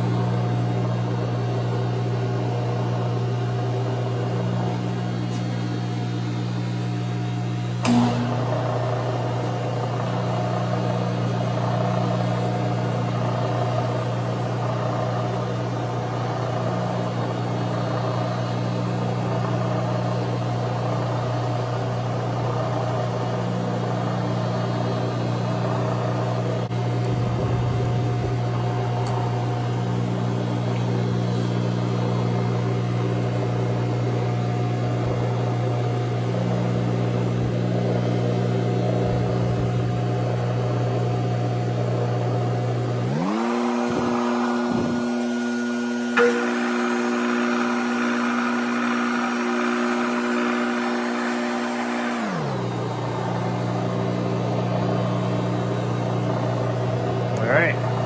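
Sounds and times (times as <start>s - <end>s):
milling machine motor hum: 0.0s - 58.0s.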